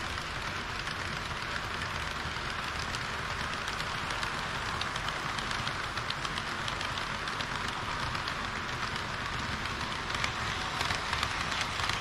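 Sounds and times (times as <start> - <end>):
model trains whirring: 0.0 - 12.0
small clicks: 0.1 - 12.0.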